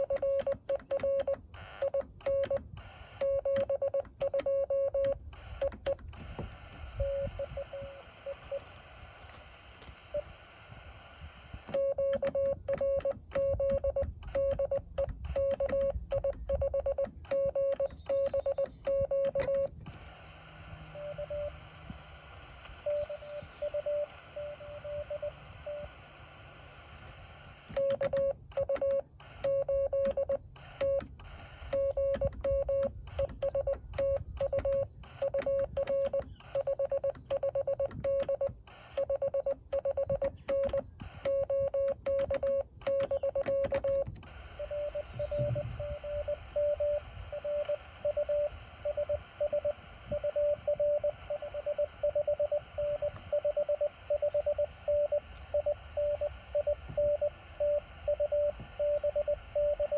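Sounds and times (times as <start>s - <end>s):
morse code tones: 0.0s - 59.9s
receiver hiss: 0.0s - 59.9s.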